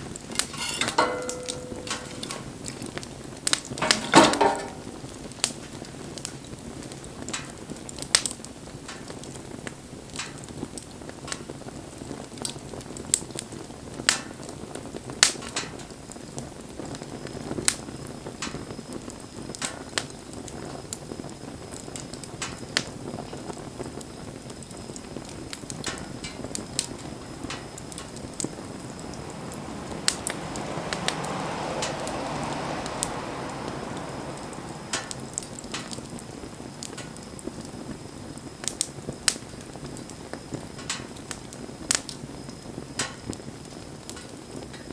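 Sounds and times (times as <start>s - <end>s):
burning wood crackling and popping: 0.0s - 44.9s
rush of bonfire flame: 0.0s - 44.9s.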